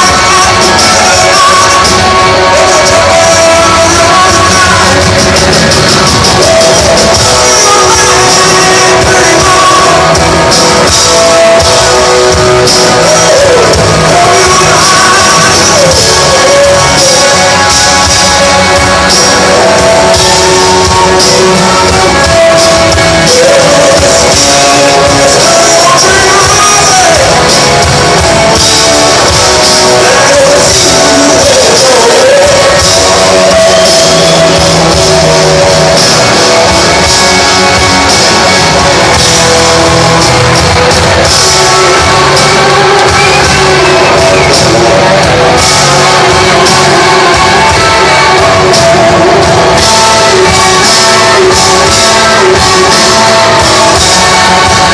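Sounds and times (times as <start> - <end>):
blues-rock band playing: 0.0 - 54.9
sliding bending lead guitar line: 0.0 - 54.9.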